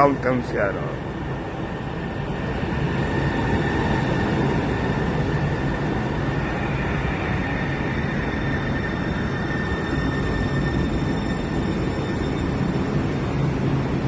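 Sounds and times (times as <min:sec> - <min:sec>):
monorail train rumbling: 0:00.0 - 0:14.0.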